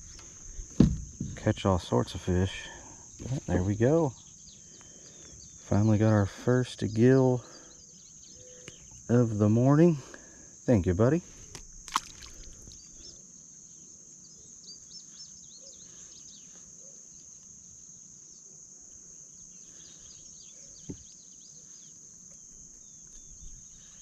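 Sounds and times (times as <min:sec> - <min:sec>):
high insect drone: 0:00.0 - 0:24.0
small birds chirping: 0:01.8 - 0:10.4, 0:11.0 - 0:24.0.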